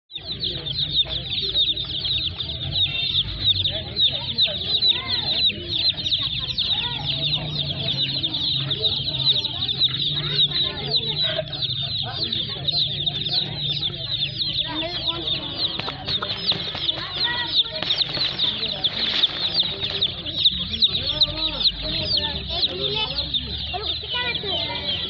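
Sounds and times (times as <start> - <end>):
baby chicks peeping: 0.1 - 25.0.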